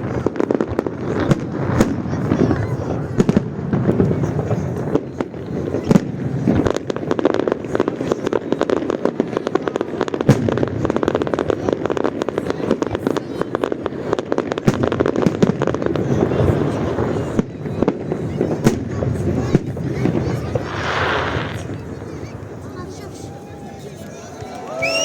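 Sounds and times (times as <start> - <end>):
dense crackle of small pops: 0.0 - 21.9
fireworks bangs: 0.0 - 25.0.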